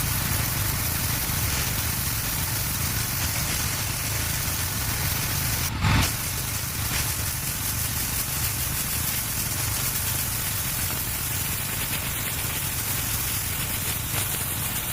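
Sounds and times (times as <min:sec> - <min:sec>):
pressure washer engine hum: 0:00.0 - 0:14.9
water spray hissing: 0:00.0 - 0:14.9.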